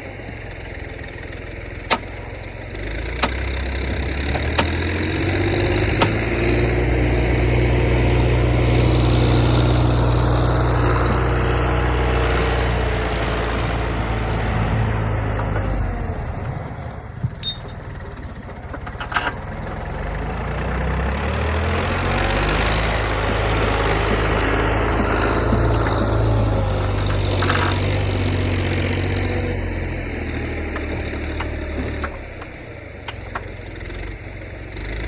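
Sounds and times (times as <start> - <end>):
backhoe diesel engine running: 0.0 - 35.0.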